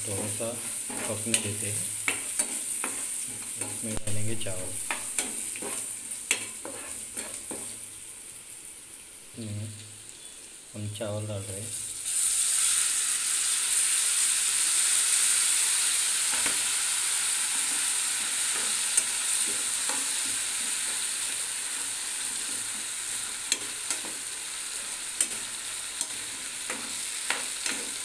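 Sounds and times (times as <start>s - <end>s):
rice sizzling in hot oil: 0.0s - 28.0s.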